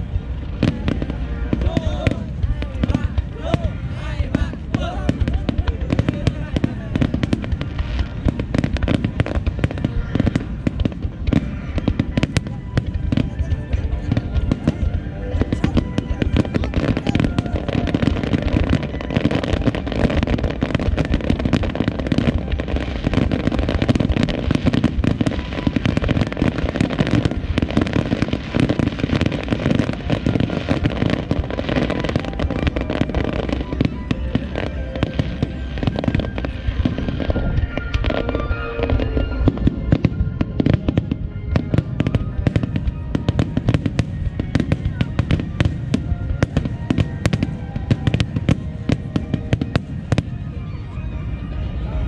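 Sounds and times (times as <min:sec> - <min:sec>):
fireworks booming and crackling: 0:00.0 - 0:52.0
music playing: 0:00.0 - 0:52.0.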